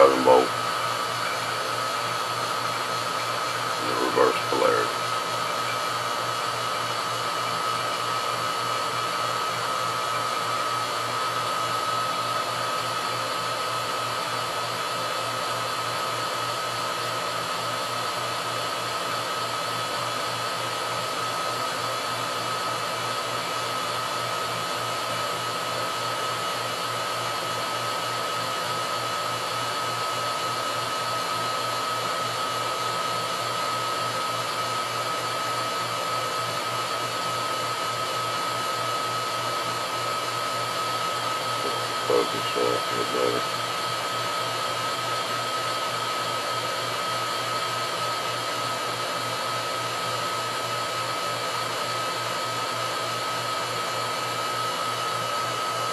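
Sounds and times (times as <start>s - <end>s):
vacuum pump running: 0.0s - 55.9s.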